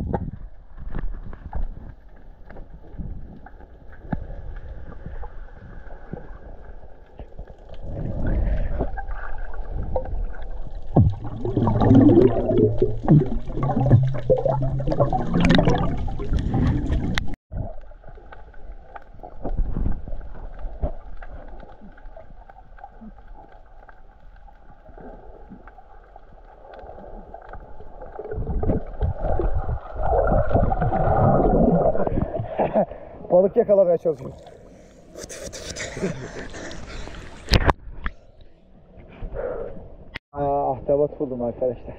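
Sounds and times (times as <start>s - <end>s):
underwater splashing and bubbling: 0.0s - 33.3s, 34.2s - 38.1s.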